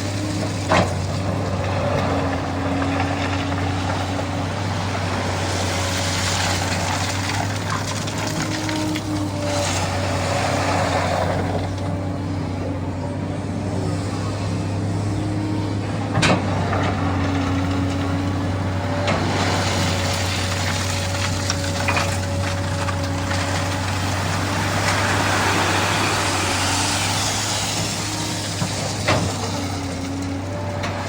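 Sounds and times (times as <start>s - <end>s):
excavator diesel engine running: 0.0s - 31.0s
hydraulic whine: 0.0s - 31.0s.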